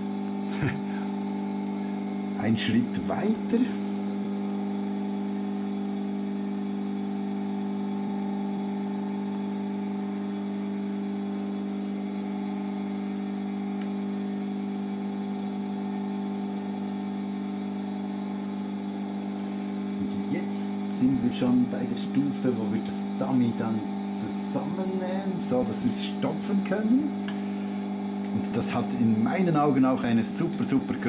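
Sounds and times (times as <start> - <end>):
electric motor hum: 0.0 - 31.0.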